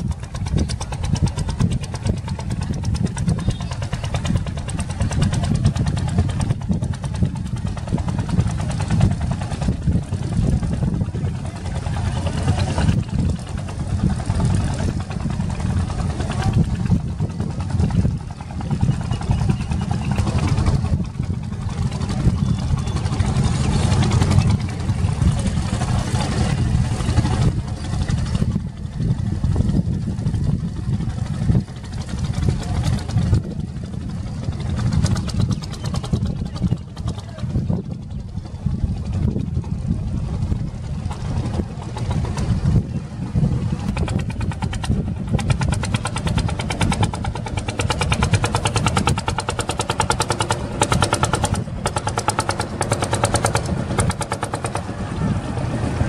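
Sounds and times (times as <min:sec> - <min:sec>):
boat engine idling: 0:00.0 - 0:56.0
voices: 0:00.1 - 0:29.8, 0:30.4 - 0:56.0.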